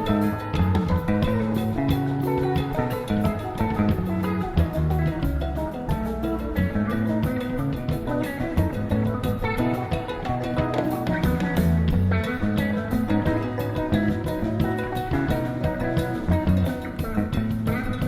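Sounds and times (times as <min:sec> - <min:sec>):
bass guitar: 0:00.0 - 0:18.0
drum kit: 0:00.0 - 0:18.0
electric guitars: 0:00.0 - 0:18.0.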